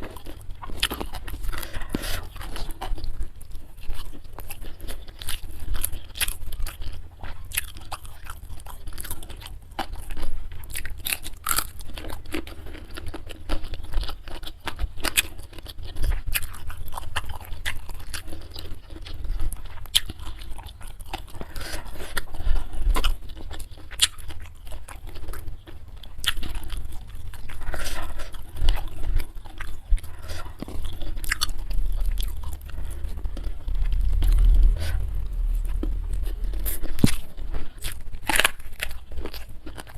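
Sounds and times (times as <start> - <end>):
person chewing crisp food: 0.0 - 39.9.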